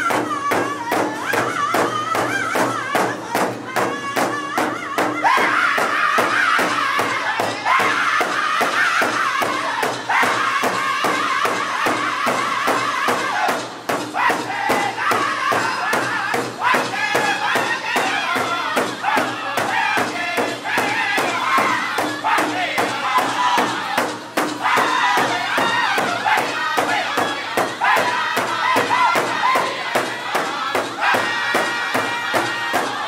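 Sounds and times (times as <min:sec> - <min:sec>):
group singing in high voices: 0:00.0 - 0:33.0
large hand drum beating: 0:00.0 - 0:33.0.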